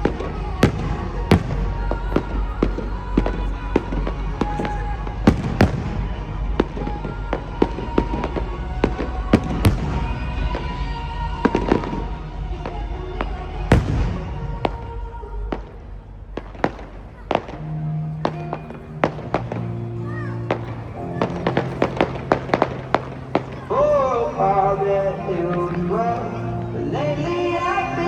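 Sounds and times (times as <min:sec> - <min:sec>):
pop music playing: 0:00.0 - 0:15.4, 0:18.1 - 0:28.0
fireworks bangs and cracks: 0:00.0 - 0:19.8, 0:20.5 - 0:23.8.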